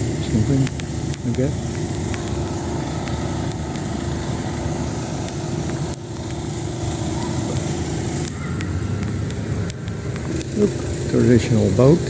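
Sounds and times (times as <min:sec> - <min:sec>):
motor low rumble: 0:00.0 - 0:12.0
steady hum: 0:00.0 - 0:12.0.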